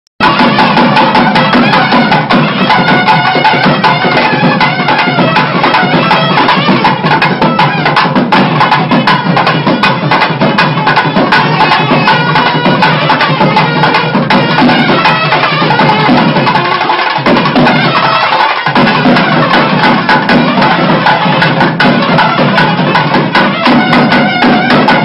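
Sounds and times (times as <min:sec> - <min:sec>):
percussion: 0:00.2 - 0:25.0
reed wind instrument melody: 0:00.2 - 0:25.0.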